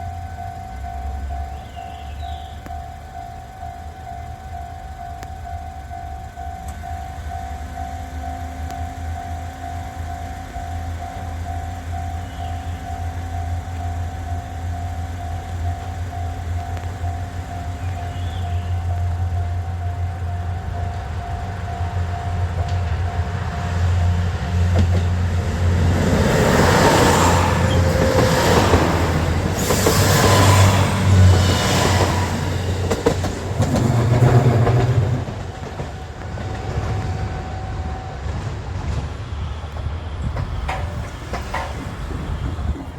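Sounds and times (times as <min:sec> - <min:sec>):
low engine rumble: 0:00.0 - 0:42.9
train going by: 0:00.0 - 0:42.9
wheels clicking over rail joints: 0:00.0 - 0:42.9.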